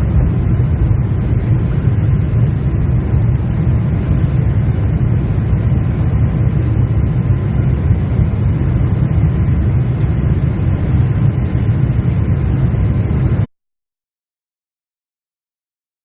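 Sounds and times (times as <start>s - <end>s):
airliner cabin rumble: 0.0s - 13.5s.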